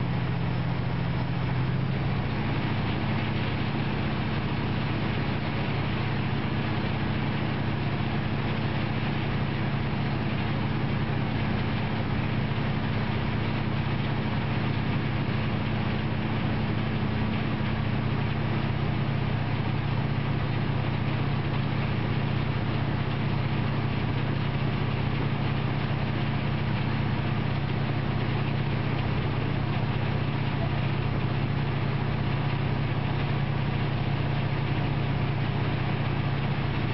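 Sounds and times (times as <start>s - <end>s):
vehicle engine running: 0.0s - 36.9s.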